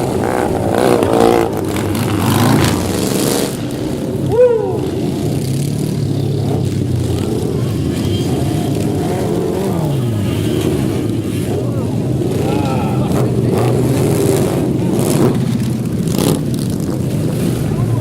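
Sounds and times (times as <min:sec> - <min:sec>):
motorcycle and car engines: 0:00.0 - 0:18.0.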